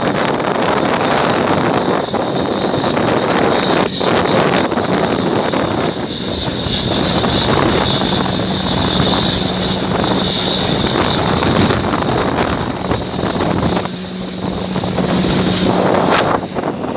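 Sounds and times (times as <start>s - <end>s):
jet engines droning: 0.0s - 16.9s.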